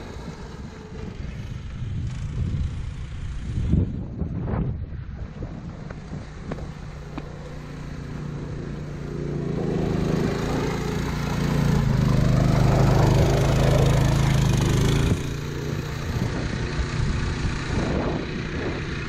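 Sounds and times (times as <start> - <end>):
go-kart engine running: 0.0 - 4.2, 5.2 - 19.0.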